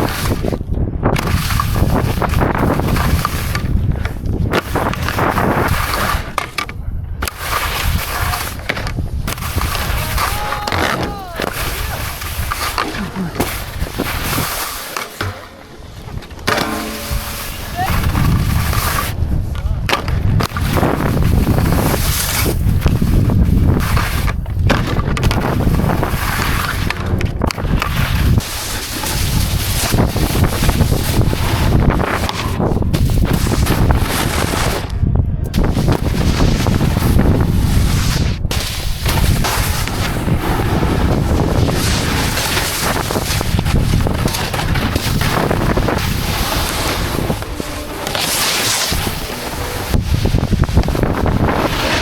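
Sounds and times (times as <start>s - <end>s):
wind buffeting microphone: 0.0s - 14.5s, 15.5s - 52.0s.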